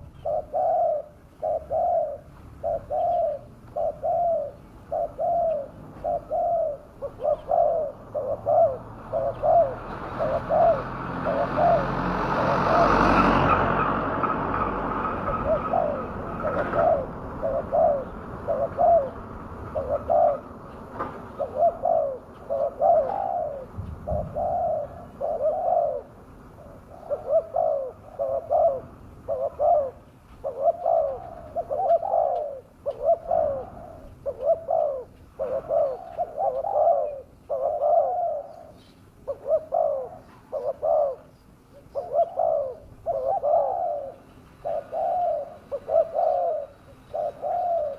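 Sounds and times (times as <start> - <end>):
dove cooing: 0.0 - 13.5, 14.5 - 47.9.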